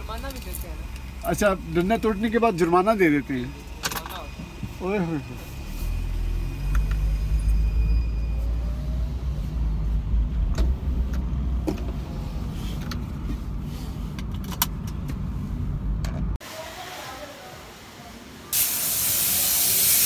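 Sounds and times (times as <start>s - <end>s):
car engine and road noise: 0.0s - 16.4s.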